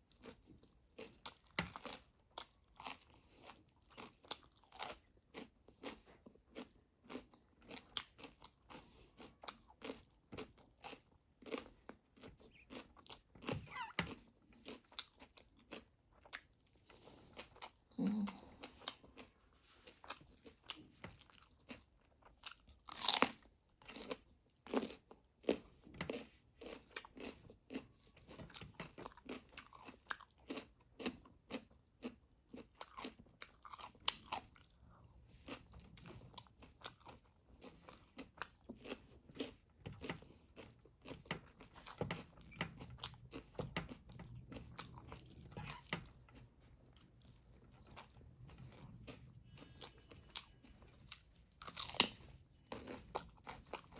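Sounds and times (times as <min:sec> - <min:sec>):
person chewing crunchy food: 0:00.0 - 0:53.9.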